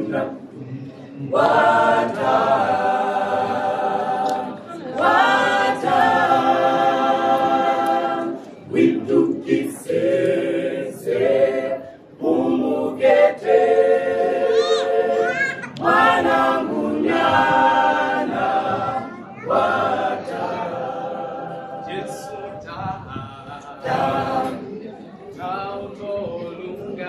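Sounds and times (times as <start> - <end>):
mixed choir singing a cappella: 0.0 - 27.0.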